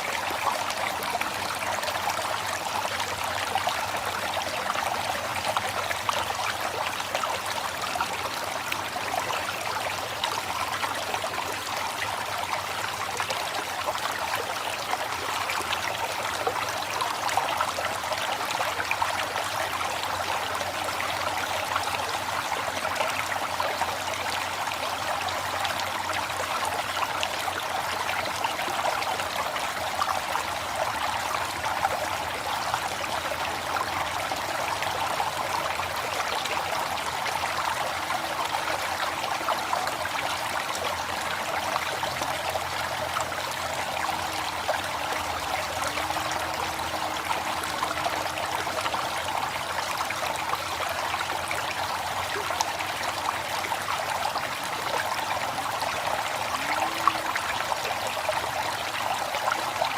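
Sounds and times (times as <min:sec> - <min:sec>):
river water babbling: 0:00.0 - 0:59.9.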